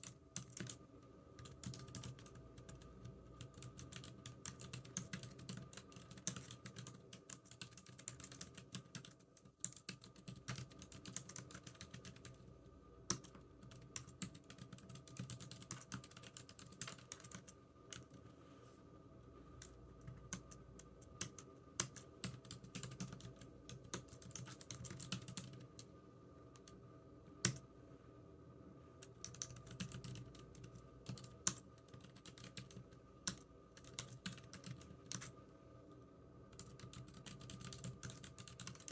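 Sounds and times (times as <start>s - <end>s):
computer keyboard typing: 0.0s - 0.8s, 1.4s - 12.5s, 13.1s - 18.2s, 19.6s - 25.9s, 29.0s - 35.3s, 36.5s - 38.9s.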